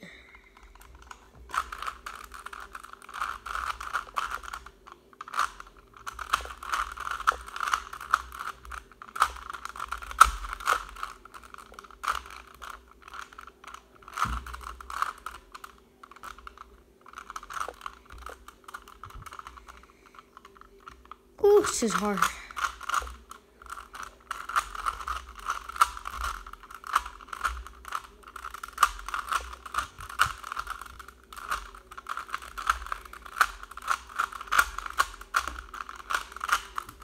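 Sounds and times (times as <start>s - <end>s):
puzzle cube clicking and scraping: 0.4s - 37.0s.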